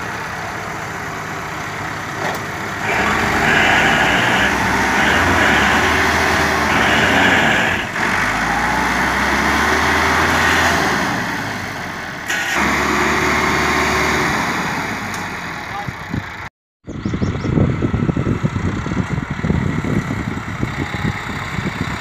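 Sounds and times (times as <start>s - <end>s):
tractor diesel engine working: 0.0s - 16.5s, 17.1s - 22.0s
truck engine working hard: 0.0s - 22.0s.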